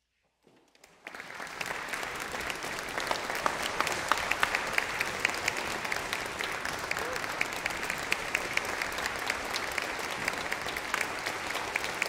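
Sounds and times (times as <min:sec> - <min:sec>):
audience applause: 0:00.8 - 0:12.0.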